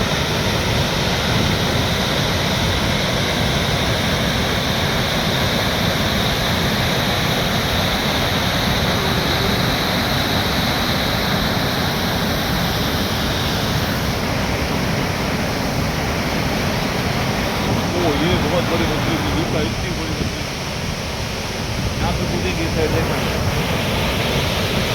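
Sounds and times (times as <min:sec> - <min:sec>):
flowing water rushing: 0:00.0 - 0:24.9.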